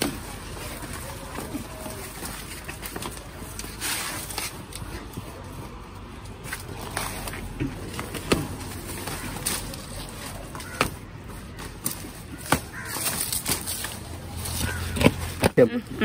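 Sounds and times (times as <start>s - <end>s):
leaves and soil rustling: 0.0s - 15.4s.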